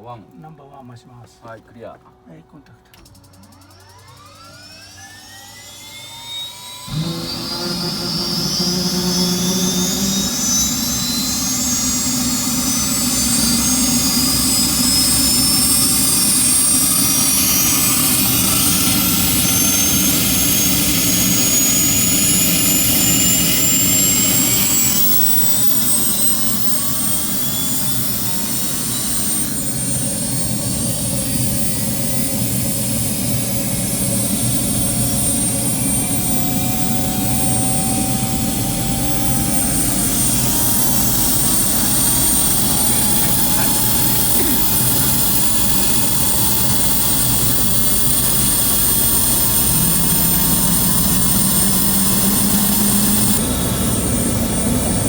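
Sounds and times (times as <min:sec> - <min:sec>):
helicopter engine and rotor: 0:02.9 - 0:55.0
rising whine: 0:02.9 - 0:55.0.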